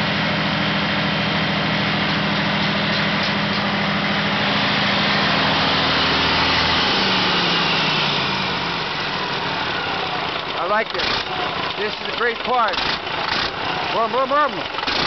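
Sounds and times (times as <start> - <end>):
diesel generator engine running: 0.0 - 15.0.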